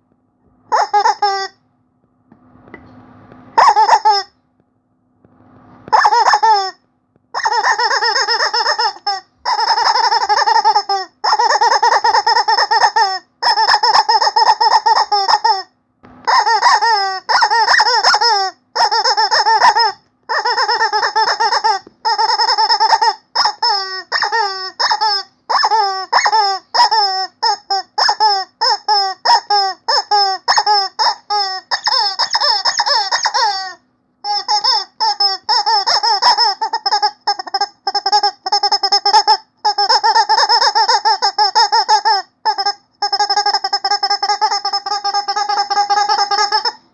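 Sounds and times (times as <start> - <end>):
squeaky rubber chicken toy: 0.7 - 1.6, 3.6 - 4.4, 5.9 - 46.9.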